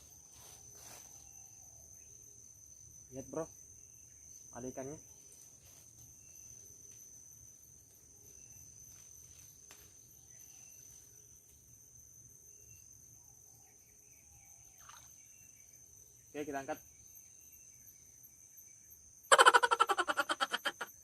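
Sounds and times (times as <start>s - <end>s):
crickets droning: 0.0s - 21.0s.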